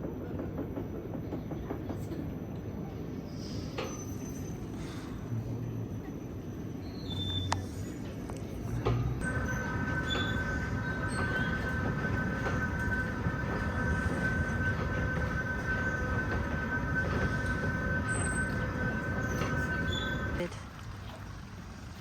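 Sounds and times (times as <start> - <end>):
fairground ride mechanical whine: 0.0 - 22.0.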